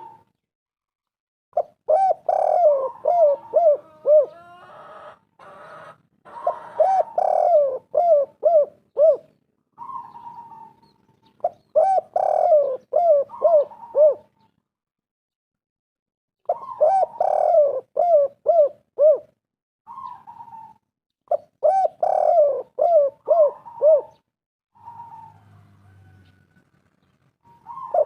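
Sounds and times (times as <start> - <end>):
dove cooing: 0.0 - 0.3, 1.6 - 14.5, 16.5 - 24.2, 24.8 - 26.4, 27.4 - 28.0.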